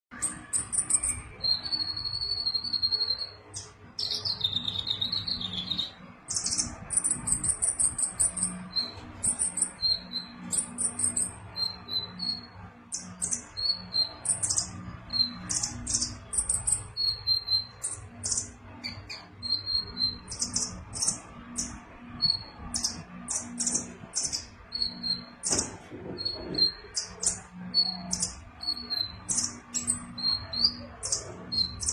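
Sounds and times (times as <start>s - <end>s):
bird chirping and trilling: 0.1s - 31.9s.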